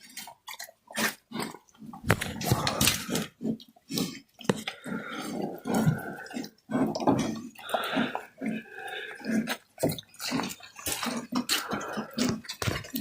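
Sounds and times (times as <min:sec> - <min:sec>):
pigs grunting: 0:00.0 - 0:13.0.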